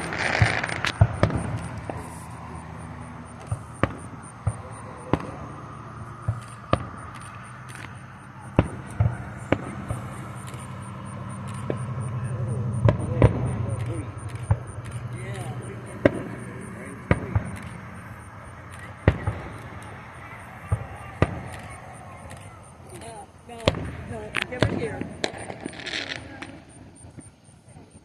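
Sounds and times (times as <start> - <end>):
fireworks bangs and pops: 0.0 - 28.0.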